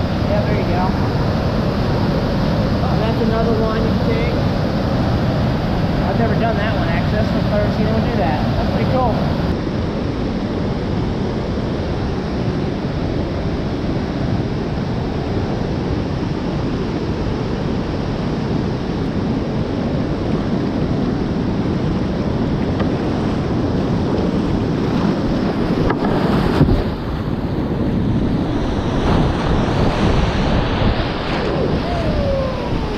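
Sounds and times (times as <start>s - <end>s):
rushing water rapid: 0.0s - 32.9s.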